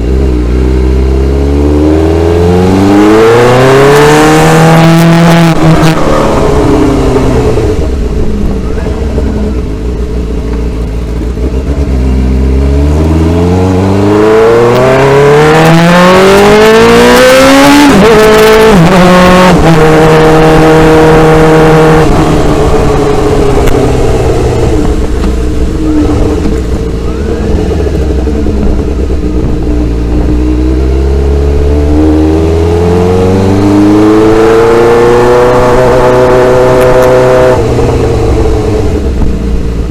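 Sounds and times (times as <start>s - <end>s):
gear changes: 0.0s - 39.9s
motorcycle engine revving: 0.0s - 39.9s.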